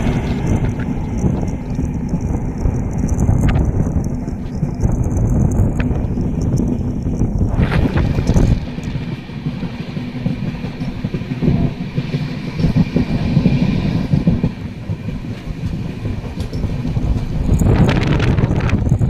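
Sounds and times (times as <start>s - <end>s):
sharp clicks of wheels: 0.0s - 19.0s
train wheels rumbling and clattering: 0.0s - 19.0s.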